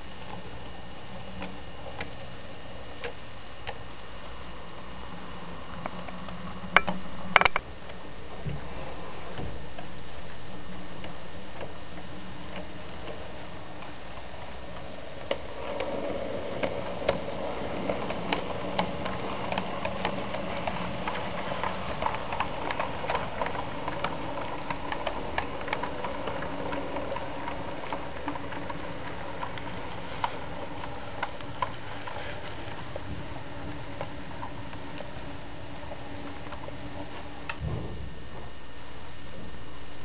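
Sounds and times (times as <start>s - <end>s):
model train wheels clicking: 0.0s - 37.6s.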